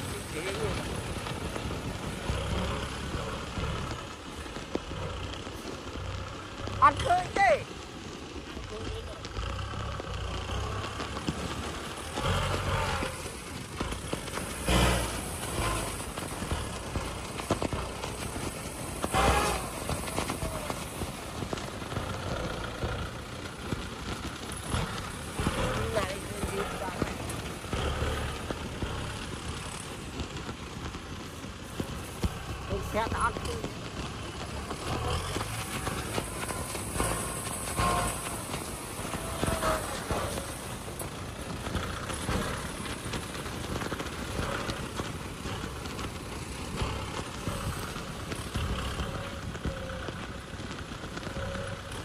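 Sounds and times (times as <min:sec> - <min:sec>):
tractor diesel engine under load: 0:00.0 - 0:52.0
dozer blade pushing soil: 0:09.2 - 0:31.0, 0:31.7 - 0:52.0.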